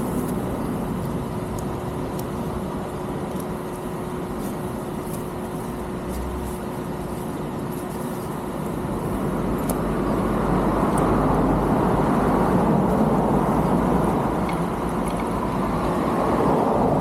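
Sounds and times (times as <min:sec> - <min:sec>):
steady hum: 0:00.0 - 0:17.0
wind and road noise: 0:00.0 - 0:17.0.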